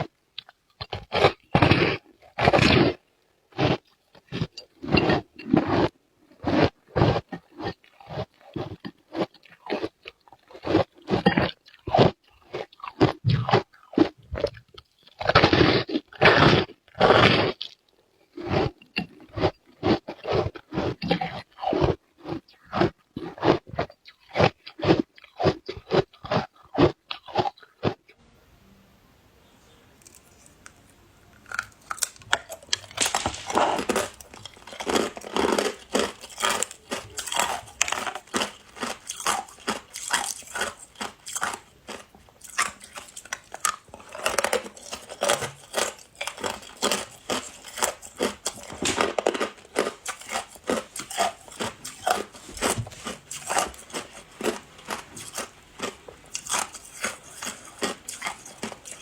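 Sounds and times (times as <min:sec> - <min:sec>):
ice being chewed: 0:00.0 - 0:28.2, 0:30.0 - 0:59.0.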